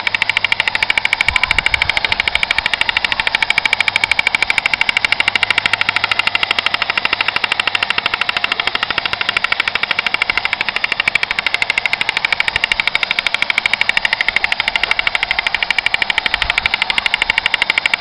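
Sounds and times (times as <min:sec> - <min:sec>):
toy helicopter rattling: 0:00.0 - 0:18.0.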